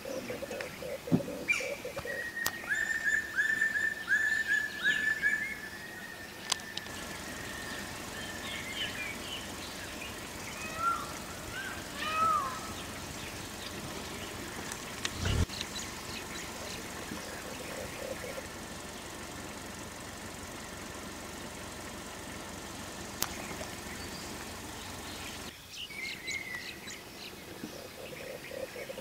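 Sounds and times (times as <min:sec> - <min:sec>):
bird chirps: 0:00.0 - 0:20.8, 0:23.0 - 0:29.0.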